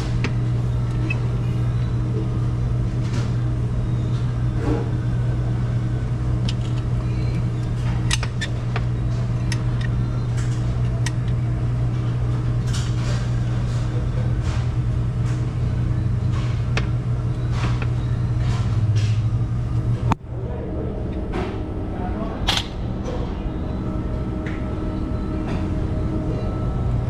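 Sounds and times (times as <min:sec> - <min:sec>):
refrigeration machinery humming: 0:00.0 - 0:27.0.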